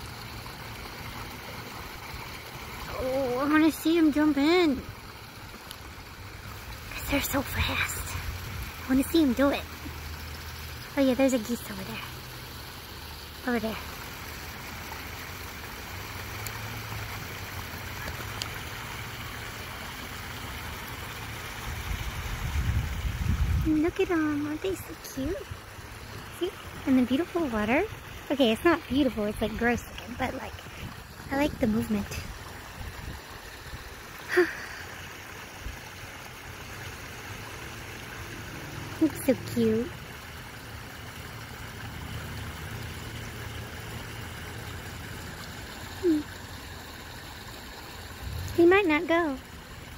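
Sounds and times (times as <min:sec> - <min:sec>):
low steady rumble: 0:00.0 - 0:49.9
water trickling over rocks: 0:00.0 - 0:49.9.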